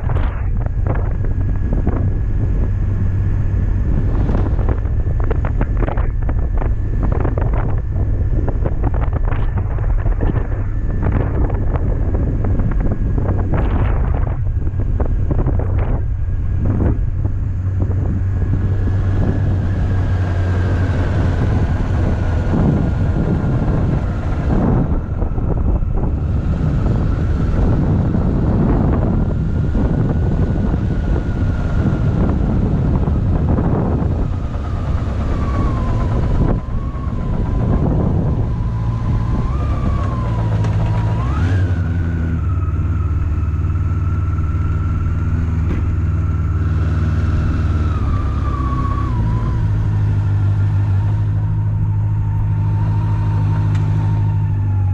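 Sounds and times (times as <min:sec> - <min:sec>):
high whine: 0:00.0 - 0:54.9
motorcycle engine running: 0:00.0 - 0:54.9
wind noise on microphone: 0:00.0 - 0:54.9.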